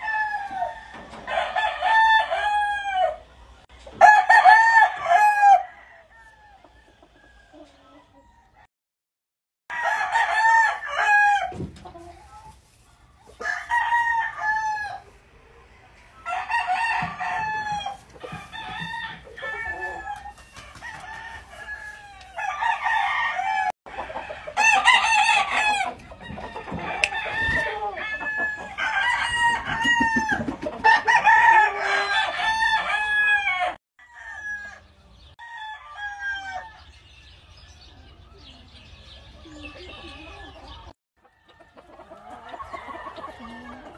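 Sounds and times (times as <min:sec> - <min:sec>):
roosters crowing: 0:00.0 - 0:08.7, 0:09.7 - 0:11.8, 0:13.3 - 0:43.9.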